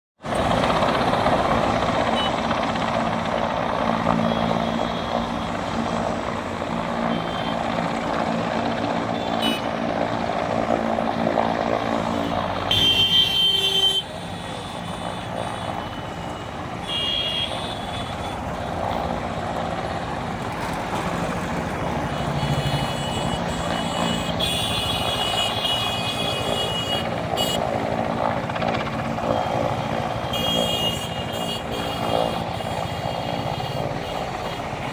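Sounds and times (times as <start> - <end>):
motor vehicle engines: 0.2 - 34.9.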